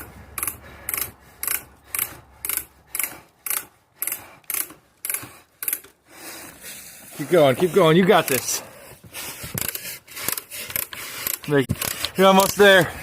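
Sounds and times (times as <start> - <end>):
hand brace boring scrape: 0.0 - 13.0.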